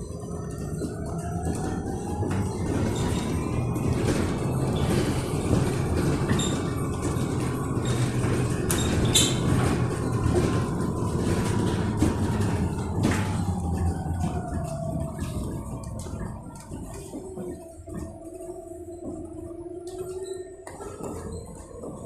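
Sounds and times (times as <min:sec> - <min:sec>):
tyres and running gear rumble: 0:00.0 - 0:22.0.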